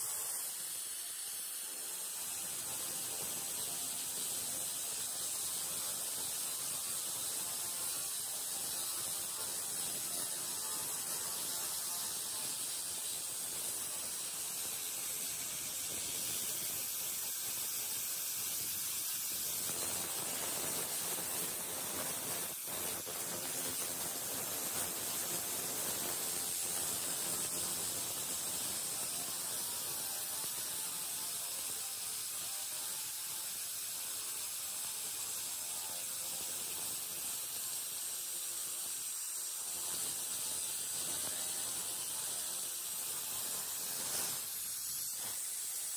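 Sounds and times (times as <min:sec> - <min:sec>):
laser cleaner hissing: 0:00.0 - 0:45.9.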